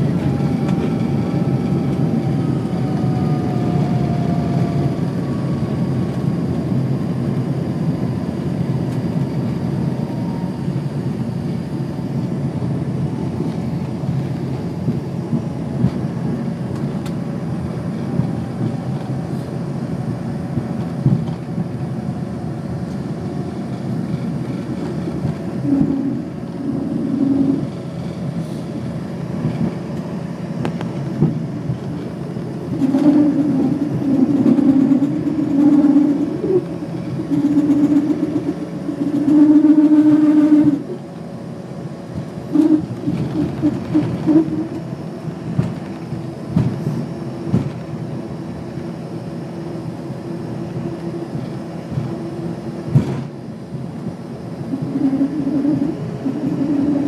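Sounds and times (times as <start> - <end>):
low drone: 0.0 - 47.4, 48.0 - 57.0
jet engines running: 0.0 - 57.0
wheels rumbling on pavement: 0.0 - 57.0.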